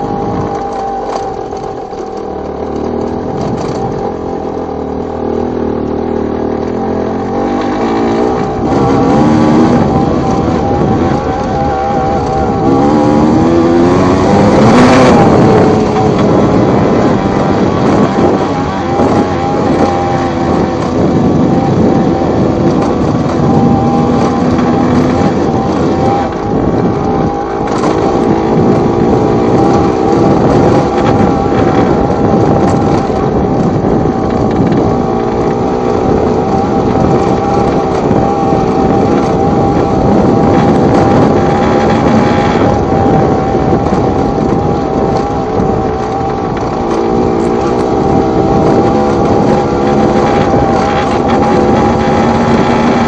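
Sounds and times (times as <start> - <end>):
two-stroke motorcycle engine: 0.0 - 53.0
wind noise on microphone: 0.0 - 53.0.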